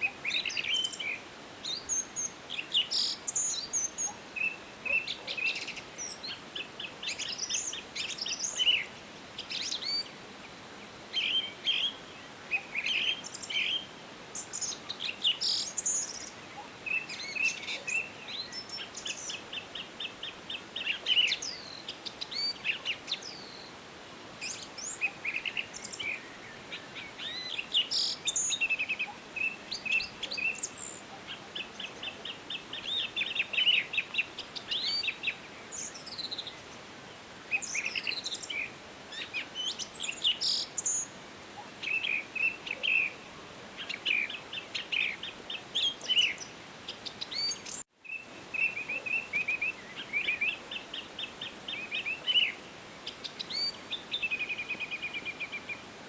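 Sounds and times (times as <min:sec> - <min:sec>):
songbirds chirping and trilling: 0:00.0 - 0:23.8, 0:24.4 - 0:56.0
soft steady hiss: 0:00.0 - 0:56.0.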